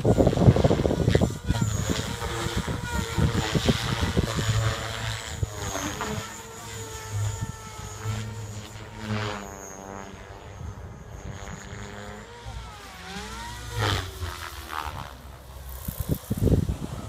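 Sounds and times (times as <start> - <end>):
helicopter rotor and motor whine: 0.0 - 17.0
rotor blade whoosh: 0.0 - 17.0.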